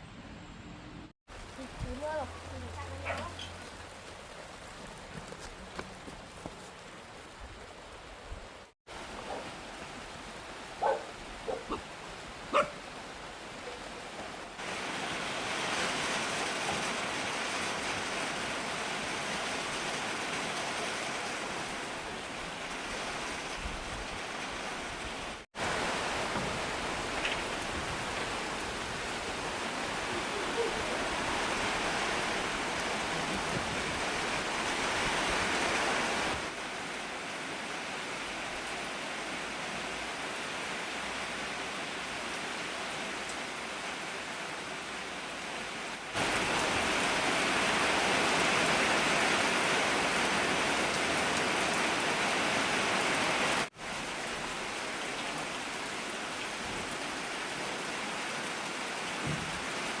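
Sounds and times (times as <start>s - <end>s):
heavy rain pouring: 1.3s - 60.0s.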